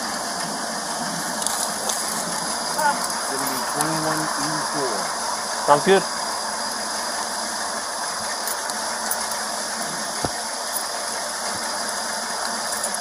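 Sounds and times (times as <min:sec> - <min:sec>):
street ambience hiss: 0:00.0 - 0:13.0.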